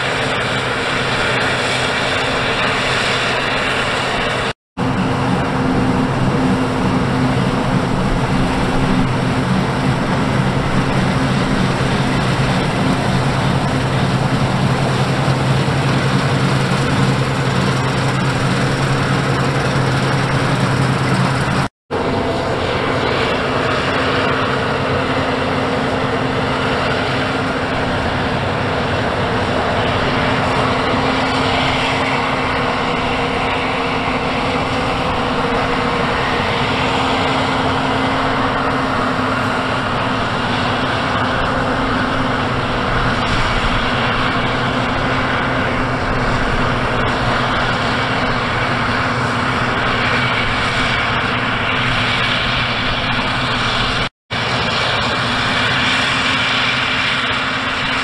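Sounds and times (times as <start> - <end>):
combine harvester machinery drone: 0.0 - 58.0.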